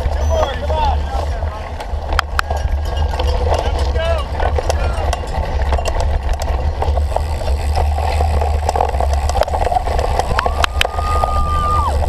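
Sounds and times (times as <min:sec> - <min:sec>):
bike rattling over rough ground: 0:00.0 - 0:12.0
wind buffeting microphone: 0:00.0 - 0:12.0.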